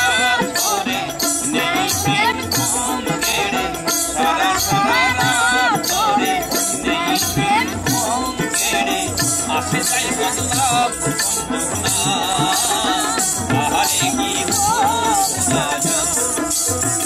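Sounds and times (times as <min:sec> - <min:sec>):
rattle percussion: 0:00.0 - 0:17.0.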